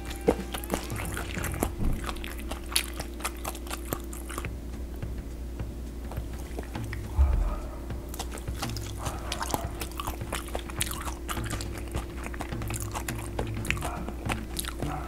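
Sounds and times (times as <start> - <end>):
chewing with crunching clicks: 0.0 - 4.6, 6.1 - 15.0.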